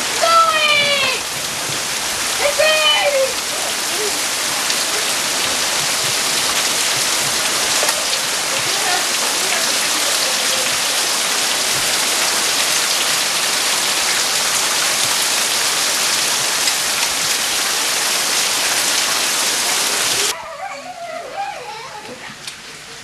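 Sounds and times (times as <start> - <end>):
heavy hail pelting down: 0.0 - 20.3.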